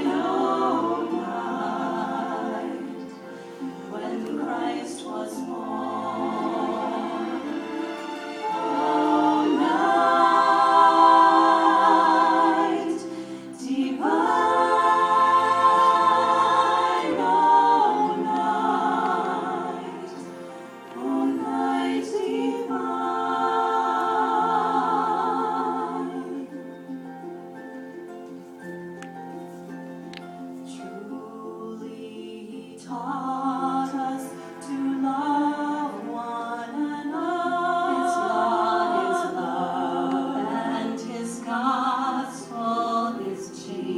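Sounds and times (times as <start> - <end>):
choir singing: 0.0 - 28.0, 29.6 - 43.9.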